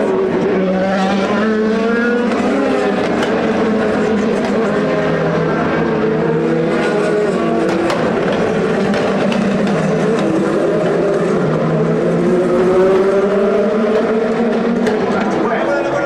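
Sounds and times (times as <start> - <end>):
racing car engines idling: 0.0 - 16.0.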